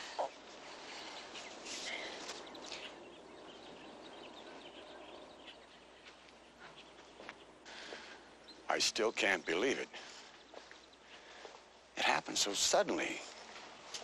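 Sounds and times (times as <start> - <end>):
bird chirps: 0.0 - 11.4
soft outdoor hiss: 0.0 - 14.0.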